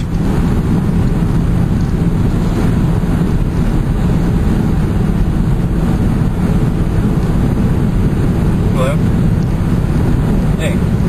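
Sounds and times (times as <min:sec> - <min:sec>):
road and wind noise inside car: 0:00.0 - 0:11.0.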